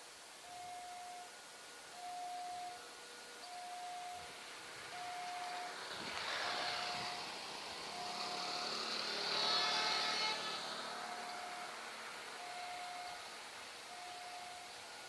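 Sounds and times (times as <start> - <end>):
train crossing steel bridge: 0.0 - 15.0
level crossing warning bell: 0.4 - 15.0.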